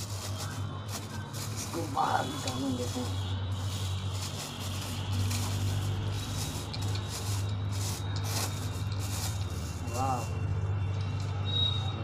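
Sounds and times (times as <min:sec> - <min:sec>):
plastic bag rustling: 0:00.0 - 0:10.4.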